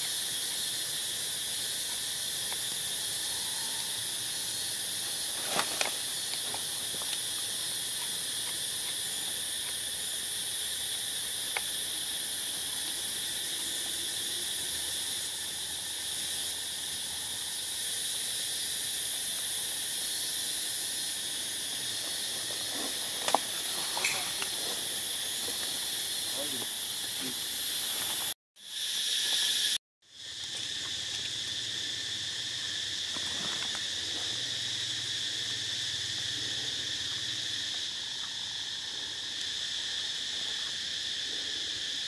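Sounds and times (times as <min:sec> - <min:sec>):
high-pitched insect chorus: 0:00.0 - 0:42.0.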